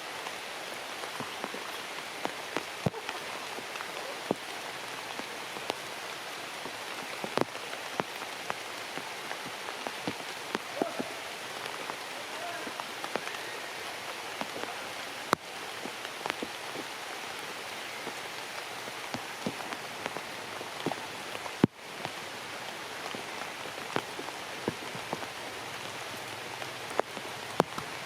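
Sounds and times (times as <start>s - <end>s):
raindrops ticking close by: 0.0s - 28.0s
steady rain falling: 0.0s - 28.0s.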